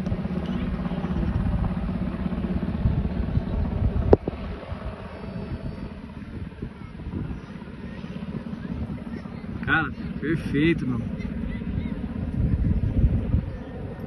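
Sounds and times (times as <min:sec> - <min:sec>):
helicopter rotor and engine: 0:00.0 - 0:14.0
wind buffeting microphone: 0:00.0 - 0:14.0.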